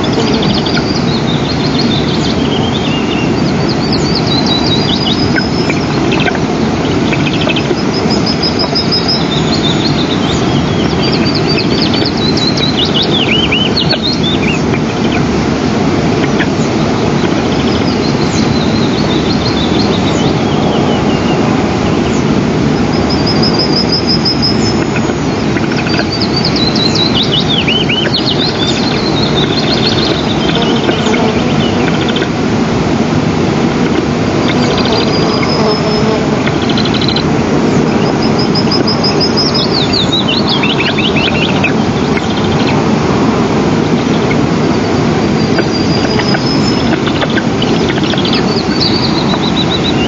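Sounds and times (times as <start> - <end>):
birds chirping: 0.0 - 32.6, 33.7 - 50.0
low rushing noise: 0.0 - 50.0.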